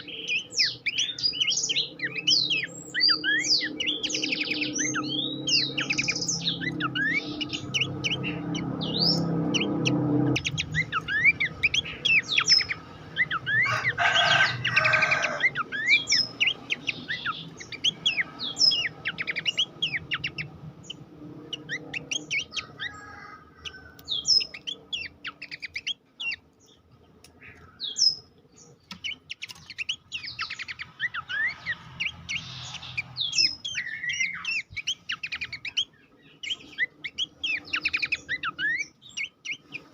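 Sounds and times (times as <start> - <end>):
buzzy bird call: 0.0 - 26.5, 29.0 - 39.9
bird chirping and whistling: 0.0 - 26.8, 27.5 - 39.9.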